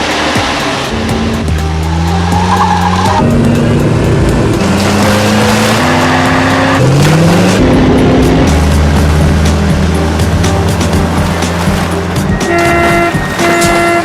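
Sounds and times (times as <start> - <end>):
car engines revving: 0.0 - 14.0
chase soundtrack music: 0.0 - 14.0.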